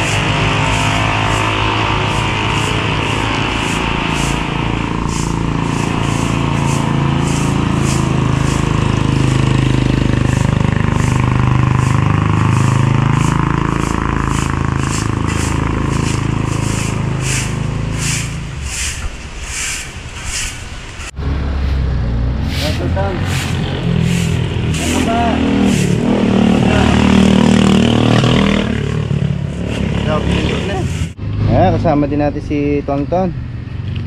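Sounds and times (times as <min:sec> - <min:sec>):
broom sweeping pavement: 0:00.0 - 0:27.7, 0:29.4 - 0:31.2
heavy engine droning: 0:00.0 - 0:31.7.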